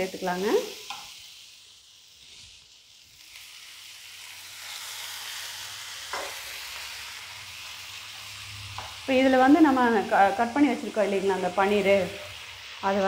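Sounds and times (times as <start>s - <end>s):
water sizzling in a frying pan: 0.0s - 13.0s.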